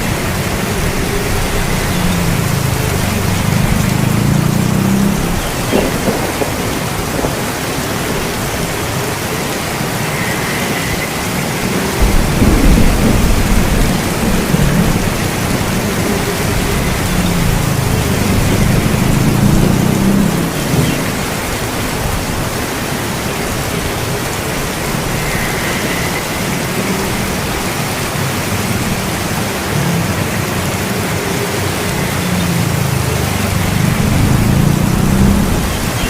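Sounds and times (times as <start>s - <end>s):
low thunder rumbling: 0.0s - 29.3s, 32.6s - 36.0s
heavy rain falling: 0.0s - 36.0s.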